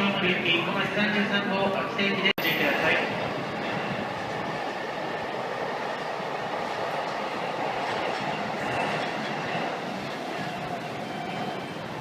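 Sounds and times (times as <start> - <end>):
train rolling: 0.0 - 12.0.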